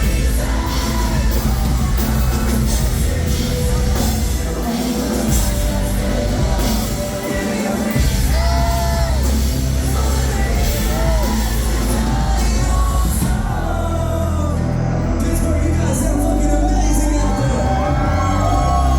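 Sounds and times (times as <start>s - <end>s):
person singing: 0.0s - 18.9s
rock band playing live: 0.0s - 18.9s.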